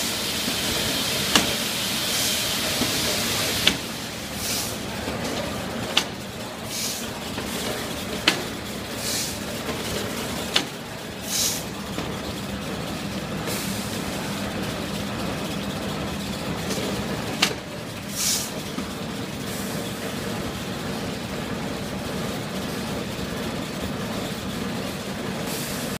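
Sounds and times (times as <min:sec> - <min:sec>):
filling machine humming: 0:00.0 - 0:25.9.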